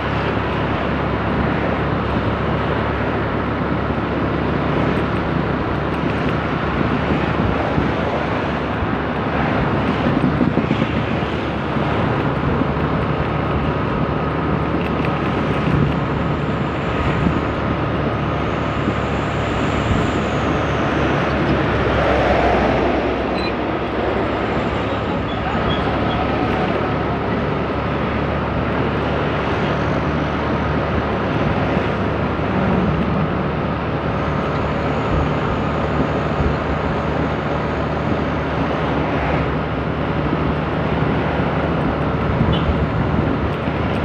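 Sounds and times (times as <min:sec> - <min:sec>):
road noise: 0:00.0 - 0:44.0.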